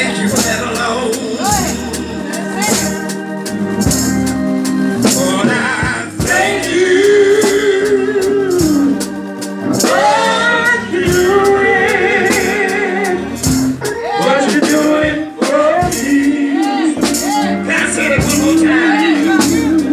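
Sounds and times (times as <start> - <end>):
man singing lead: 0.0 - 3.2, 5.0 - 19.9
organ chords: 0.0 - 19.9
tambourine beat: 0.0 - 19.9.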